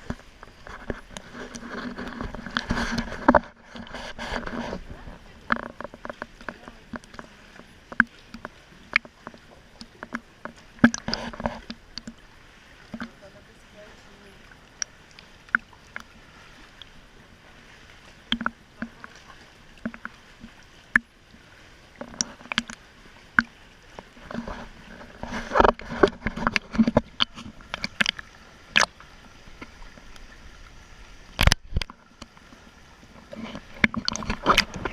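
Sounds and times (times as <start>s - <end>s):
water splashing and sloshing: 0.0s - 34.9s.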